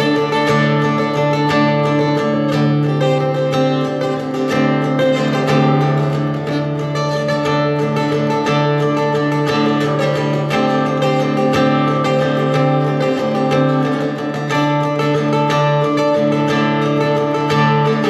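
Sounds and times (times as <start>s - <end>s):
solo acoustic guitar: 0.0s - 18.0s.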